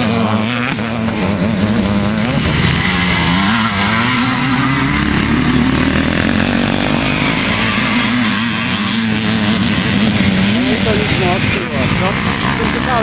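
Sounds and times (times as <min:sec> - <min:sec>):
motorcycles racing past: 0:00.0 - 0:13.0.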